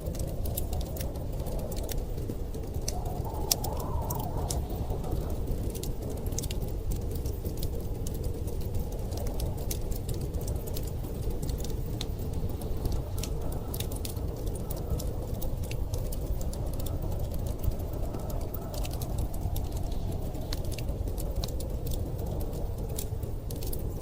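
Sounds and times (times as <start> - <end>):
storm wind rumble: 0.0 - 24.0
wood fire crackling: 0.0 - 24.0.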